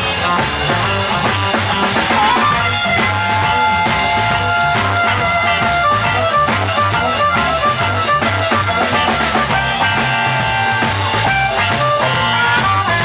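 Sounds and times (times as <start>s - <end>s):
blues harmonica long notes: 0.0s - 13.0s
live blues band playing: 0.0s - 13.0s.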